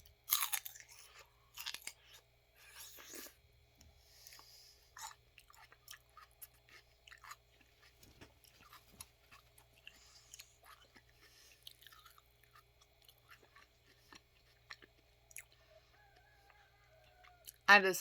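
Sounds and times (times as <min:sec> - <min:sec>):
person chewing celery: 0:00.0 - 0:17.7.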